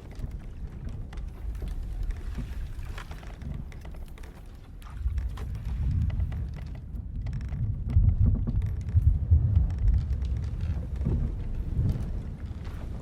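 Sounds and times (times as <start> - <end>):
rumbling sea and wind: 0.0 - 13.0
ship timbers creaking: 0.0 - 13.0.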